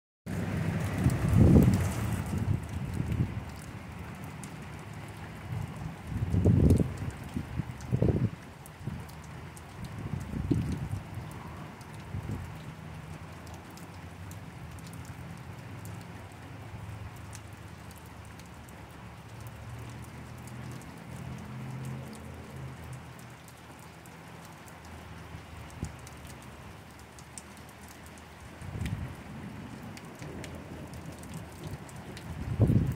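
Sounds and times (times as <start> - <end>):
steady rain falling: 0.3 - 32.9.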